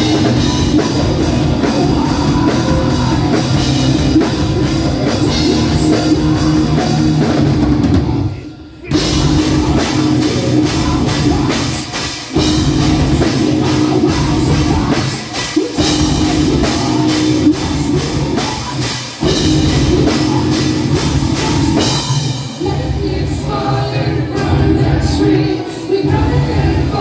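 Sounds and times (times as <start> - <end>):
distorted guitar: 0.0 - 27.0
drum kit: 0.0 - 27.0.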